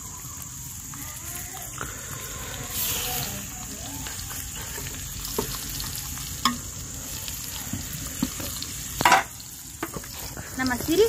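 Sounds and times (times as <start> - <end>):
fish sizzling in hot oil: 0.0 - 11.0
oil popping: 0.0 - 11.0.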